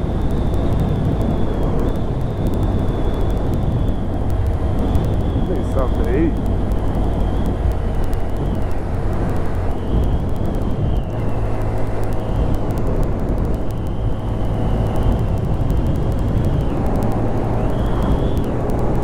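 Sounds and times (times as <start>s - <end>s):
faint high whine: 0.0s - 19.0s
motorcycle engine running: 0.0s - 19.0s
rushing wind noise: 0.0s - 19.0s.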